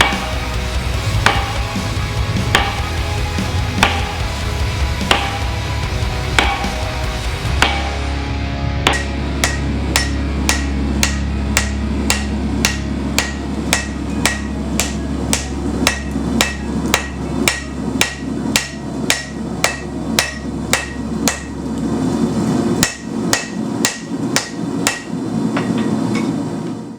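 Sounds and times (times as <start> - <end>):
hammer striking steel on anvil: 0.0 - 8.2, 8.8 - 21.6, 22.8 - 26.4
steady low hum: 0.0 - 26.9.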